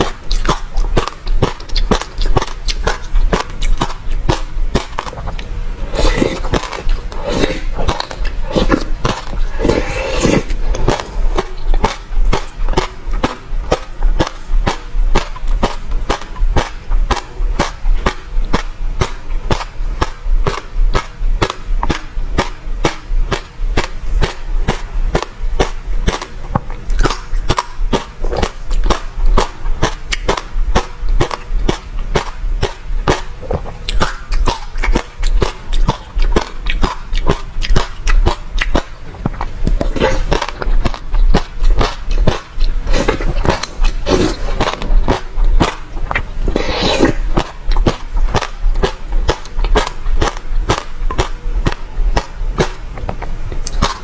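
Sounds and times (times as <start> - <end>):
seeds crunching while chewing: 0.0 - 54.0
wet mouth sounds: 0.0 - 54.0.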